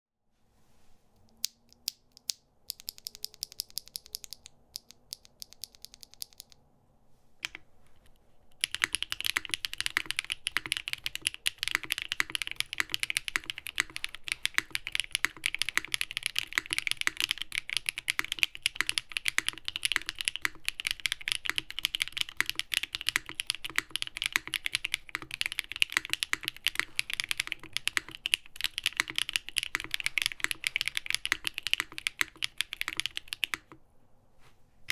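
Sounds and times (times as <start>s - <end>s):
mechanical keyboard typing: 1.4s - 6.6s, 8.6s - 33.8s.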